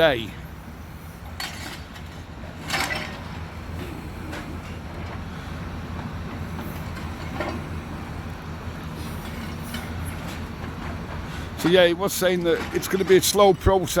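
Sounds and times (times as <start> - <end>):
large engine running: 0.0 - 14.0.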